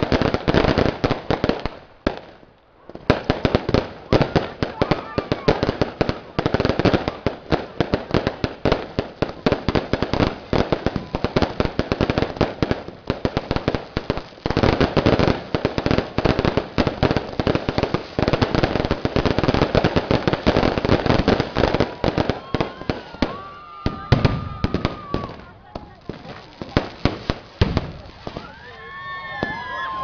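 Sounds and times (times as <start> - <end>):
fireworks popping and crackling: 0.0 - 30.0.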